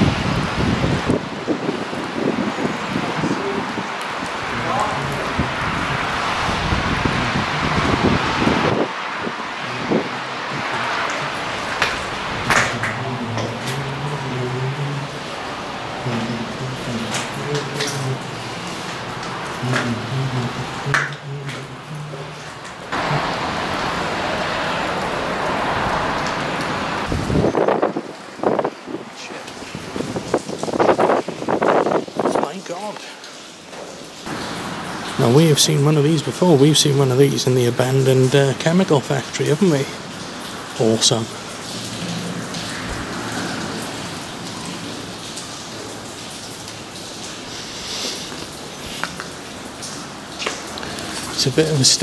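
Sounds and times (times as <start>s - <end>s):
heavy rain on concrete: 0.0s - 52.0s.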